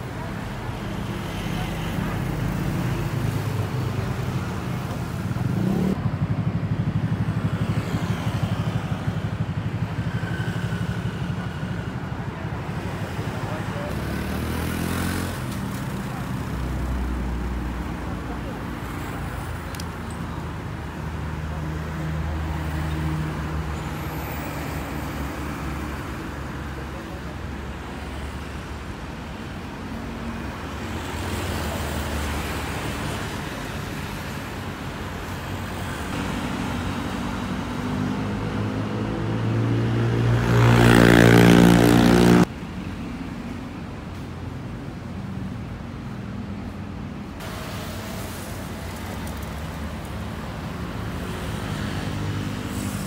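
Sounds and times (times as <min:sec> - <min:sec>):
road traffic engine hum: 0:00.0 - 0:53.0.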